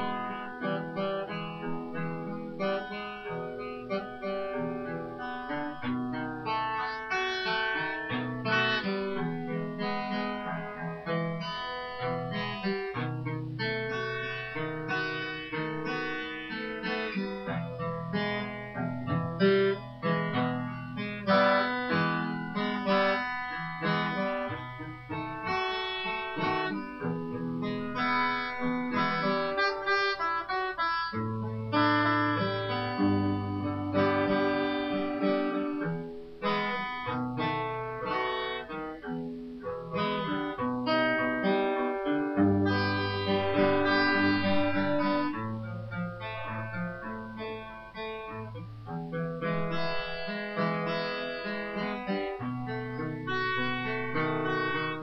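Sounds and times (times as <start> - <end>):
plucked guitar run: 0.0 - 55.0.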